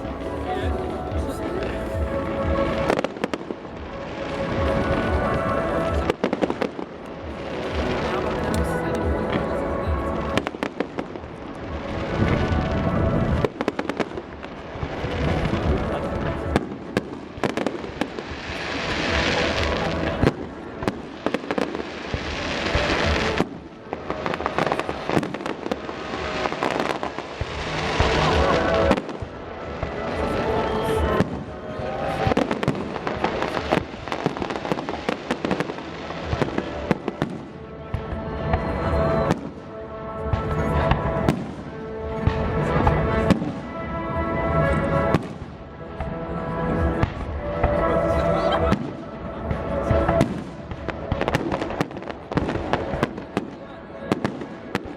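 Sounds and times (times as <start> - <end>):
fireworks bangs: 0.0 - 54.9
fireworks crackling: 0.0 - 54.9
music playing: 0.0 - 54.9.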